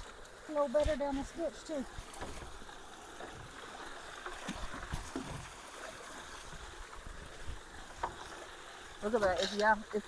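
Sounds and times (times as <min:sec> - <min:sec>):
creek water rushing through culvert: 0:00.0 - 0:10.0.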